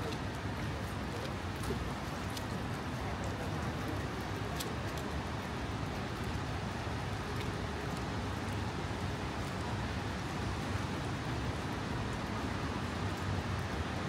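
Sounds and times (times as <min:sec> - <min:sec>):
rain: 0:00.0 - 0:14.0
traffic noise: 0:00.0 - 0:14.0.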